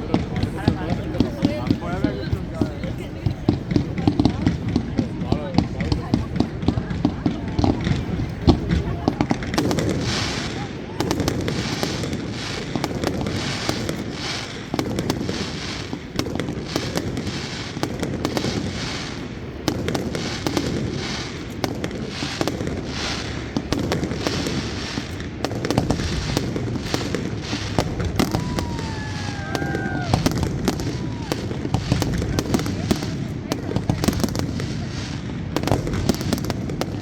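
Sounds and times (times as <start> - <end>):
fireworks cracks and bangs: 0.0 - 37.0.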